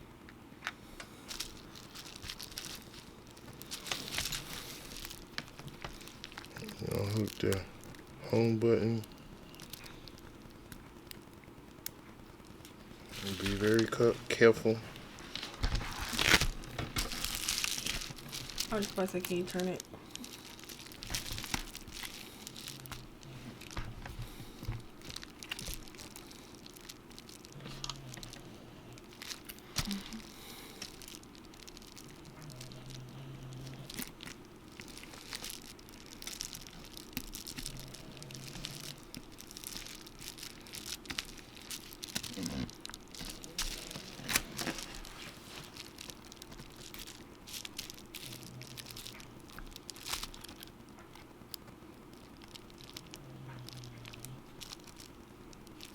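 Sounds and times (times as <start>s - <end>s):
crinkling and tearing: 0.6s - 55.9s.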